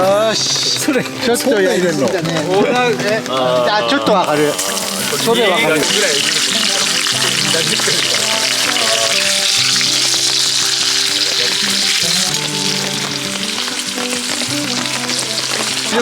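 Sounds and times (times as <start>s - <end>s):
background music: 0.0s - 16.0s
bacon sizzling: 0.0s - 16.0s.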